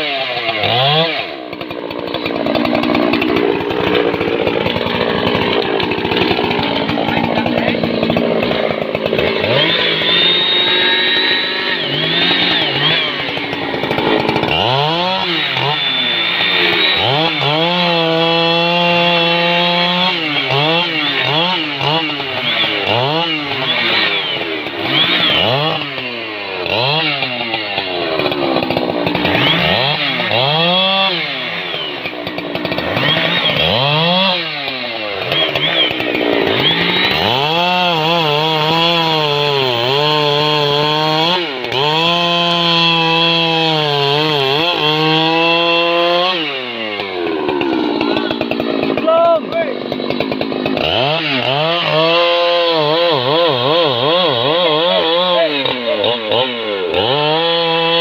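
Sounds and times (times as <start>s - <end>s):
chainsaw cutting logs: 0.0s - 58.0s.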